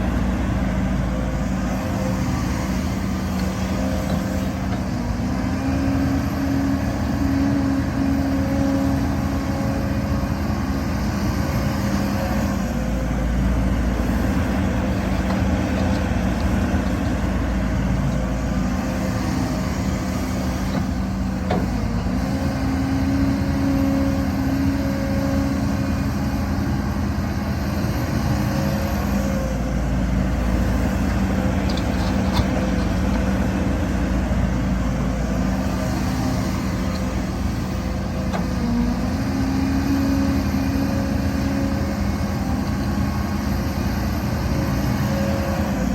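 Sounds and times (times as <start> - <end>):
diesel earthmoving machinery running: 0.0 - 45.9.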